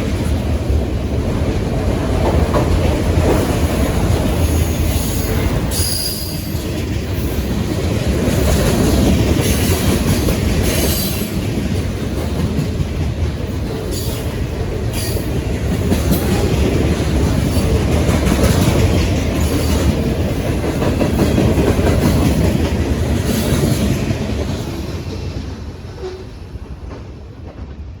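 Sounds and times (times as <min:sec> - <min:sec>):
wheels clacking on rails: 0:00.0 - 0:28.0.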